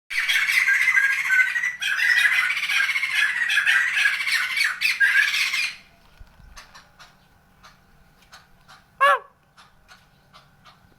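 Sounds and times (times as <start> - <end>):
bird chattering with squawky calls: 0.1 - 5.9, 6.5 - 10.9.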